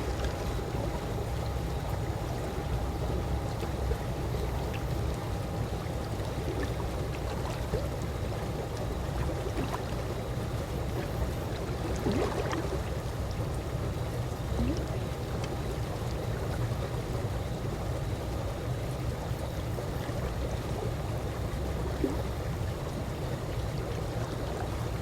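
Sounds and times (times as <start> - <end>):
pool water lapping: 0.0 - 25.0
small water gurgles: 0.0 - 25.0.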